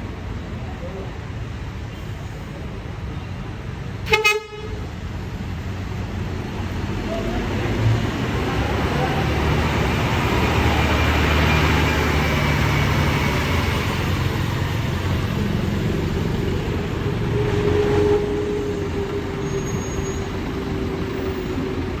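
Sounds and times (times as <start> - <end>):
bus diesel engine droning: 0.0 - 22.0.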